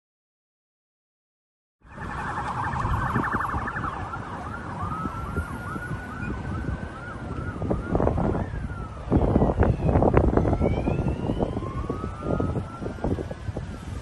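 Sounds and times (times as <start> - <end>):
police sirens wailing: 1.8 - 14.0
road and wind noise: 1.8 - 14.0.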